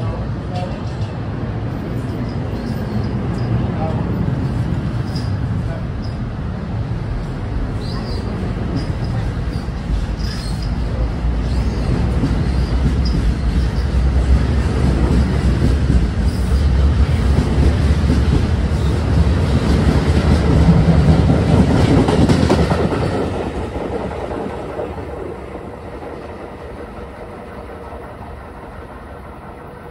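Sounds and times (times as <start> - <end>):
train wheels rumbling on rail: 0.0 - 29.9.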